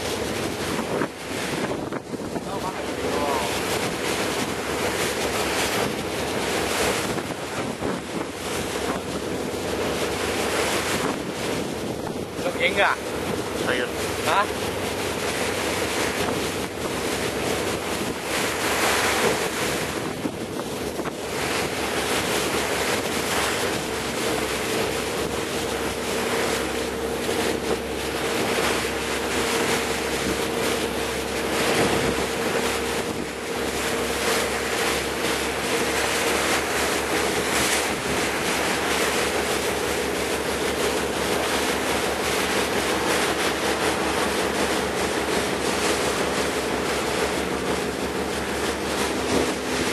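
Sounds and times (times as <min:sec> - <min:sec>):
low engine hum: 0:00.0 - 0:49.9
sea wash: 0:00.0 - 0:49.9
wind buffeting the microphone: 0:00.0 - 0:49.9.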